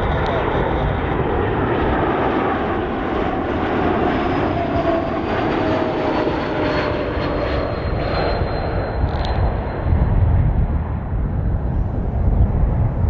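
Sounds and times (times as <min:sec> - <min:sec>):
jet engine roar: 0:00.0 - 0:13.0
jet engine whine: 0:00.0 - 0:13.0.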